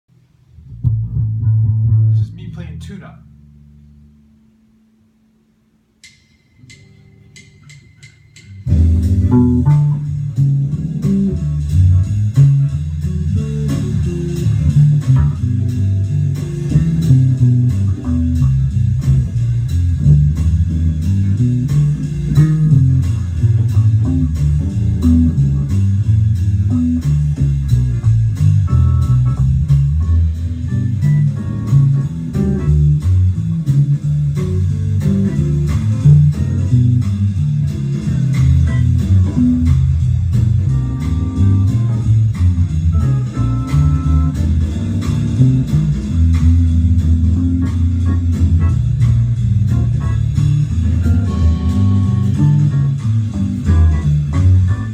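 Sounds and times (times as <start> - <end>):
low bass line: 0.1 - 5.4, 8.5 - 54.9
steady ticking beat: 6.0 - 54.9.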